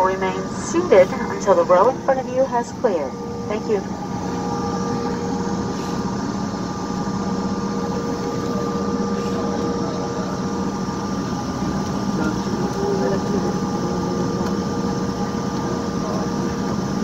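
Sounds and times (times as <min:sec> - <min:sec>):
jet engine rush in cabin: 0:00.0 - 0:17.0
steady cabin hums: 0:00.0 - 0:17.0.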